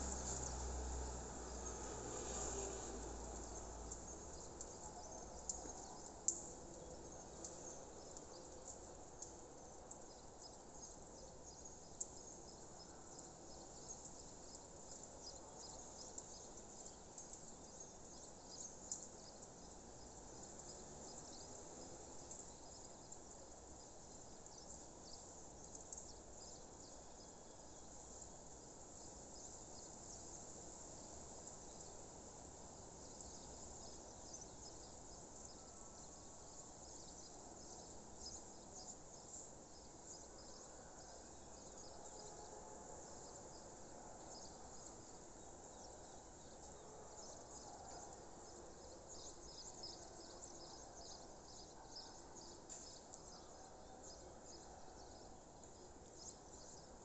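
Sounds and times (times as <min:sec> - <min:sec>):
faint insects chirping: 0:00.0 - 0:57.0.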